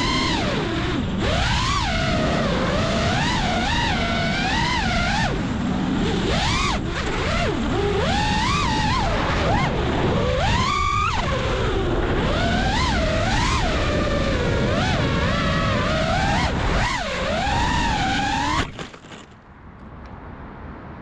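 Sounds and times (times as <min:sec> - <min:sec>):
drone motors whining: 0:00.0 - 0:19.3
rushing wind: 0:00.0 - 0:21.0.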